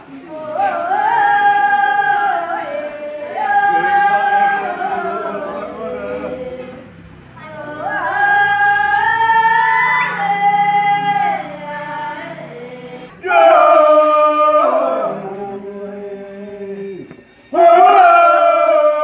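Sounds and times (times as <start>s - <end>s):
low voices holding notes: 0.0s - 18.6s
group singing: 0.0s - 19.0s.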